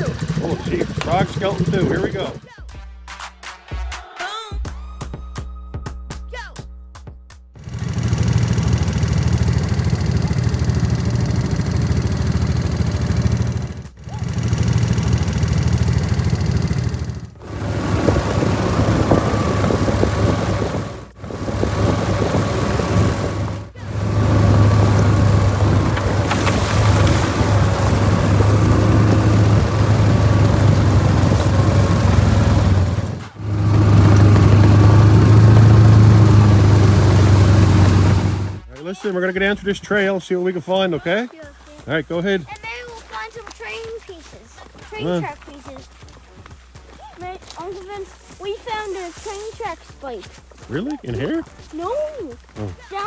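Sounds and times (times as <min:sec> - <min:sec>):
vehicle engine humming: 0:00.0 - 0:02.5, 0:07.6 - 0:53.0.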